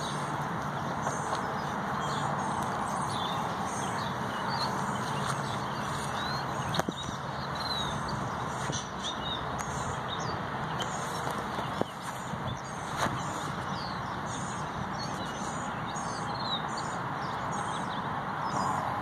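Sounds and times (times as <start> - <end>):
small birds chirping: 0.0 - 19.0
steady background rush: 0.0 - 19.0.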